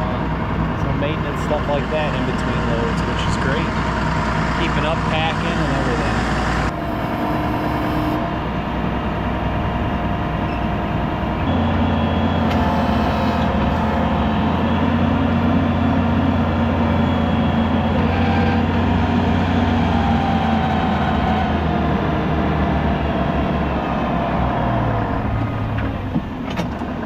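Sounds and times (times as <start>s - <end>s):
deep engine hum: 0.0s - 27.0s
diesel farm machinery running: 0.0s - 27.0s.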